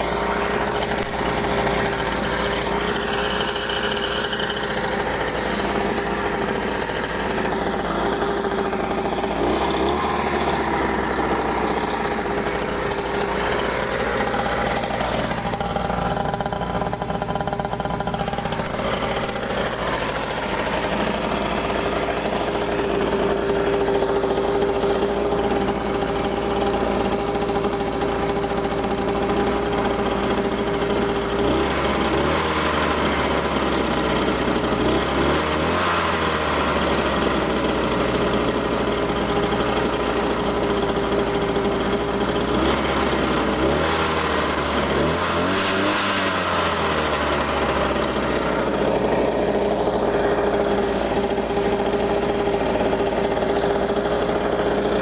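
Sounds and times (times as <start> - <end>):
small petrol engine running: 0.0 - 55.0.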